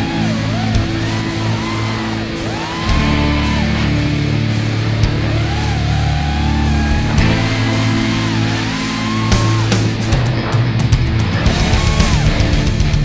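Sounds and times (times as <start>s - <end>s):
electric guitar lead melody: 0.0s - 13.0s
sustained low chords: 0.0s - 13.0s.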